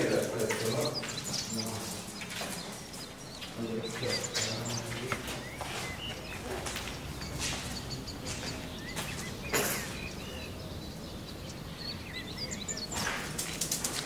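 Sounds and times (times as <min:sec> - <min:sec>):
outdoor background hum: 0:00.0 - 0:14.0
small birds chirping: 0:00.0 - 0:14.0.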